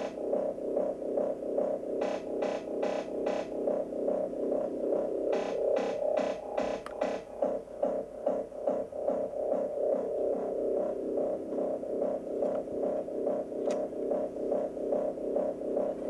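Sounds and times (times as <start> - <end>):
pulsing synthesizer drone: 0.0 - 16.0.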